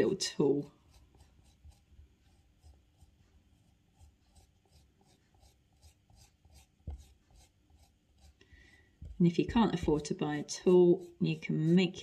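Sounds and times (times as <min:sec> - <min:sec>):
wooden knife scraping clay: 0:00.0 - 0:12.0.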